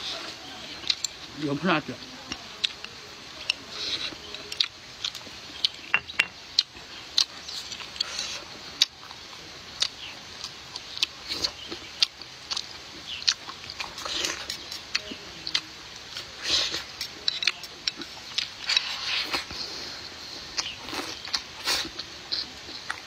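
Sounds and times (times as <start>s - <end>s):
crunchy food chewing: 2.0s - 5.9s, 6.5s - 23.0s.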